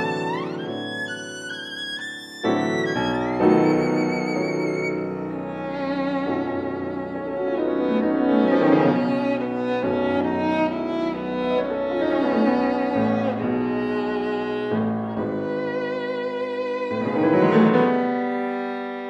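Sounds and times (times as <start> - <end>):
violin long notes with vibrato: 0.0 - 19.0.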